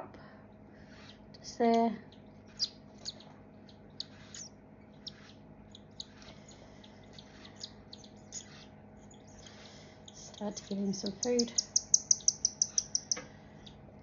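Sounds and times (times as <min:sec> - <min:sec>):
baby birds chirping: 0:00.8 - 0:14.0.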